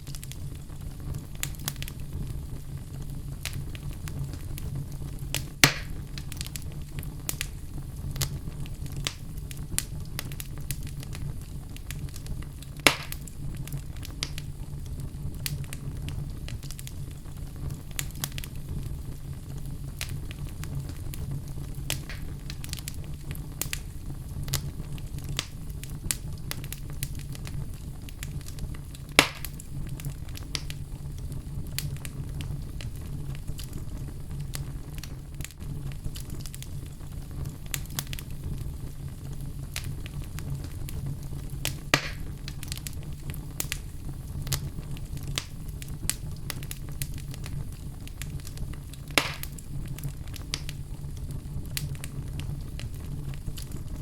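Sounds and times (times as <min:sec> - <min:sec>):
fire crackling: 0:00.0 - 0:54.0
sharp pops of fire: 0:00.0 - 0:54.0.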